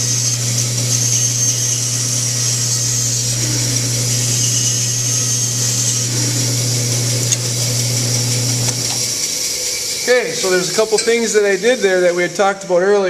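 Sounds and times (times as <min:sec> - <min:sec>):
saw blade hissing in wood: 0:00.0 - 0:12.8
band saw motor hum: 0:00.0 - 0:13.0.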